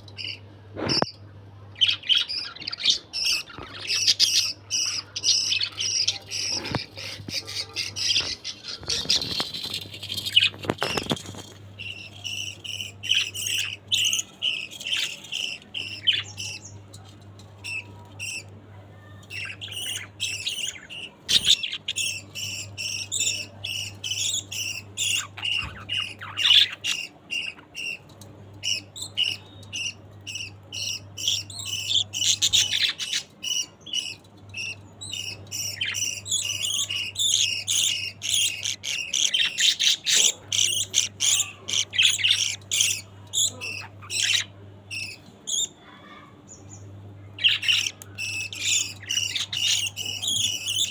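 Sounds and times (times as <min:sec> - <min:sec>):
budgerigars chirping: 0:01.8 - 0:16.8, 0:19.3 - 0:45.7, 0:47.4 - 0:50.9.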